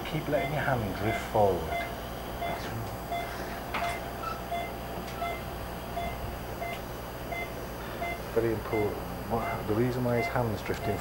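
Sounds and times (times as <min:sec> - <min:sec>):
low equipment hum: 0:00.0 - 0:11.0
patient monitor beeping: 0:00.0 - 0:11.0.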